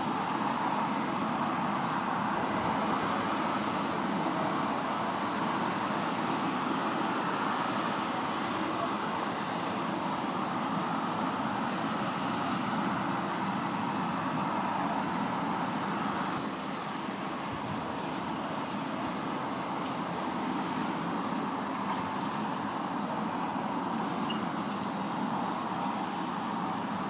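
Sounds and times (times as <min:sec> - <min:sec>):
distant road traffic noise: 0:00.0 - 0:27.0.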